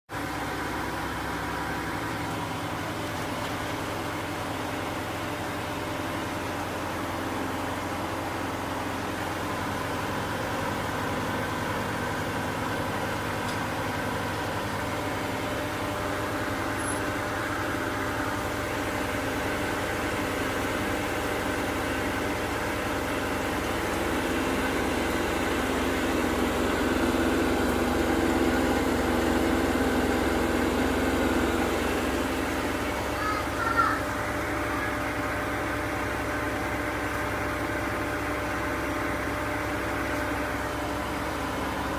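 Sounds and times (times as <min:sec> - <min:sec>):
washing machine spinning: 0:00.1 - 0:41.9.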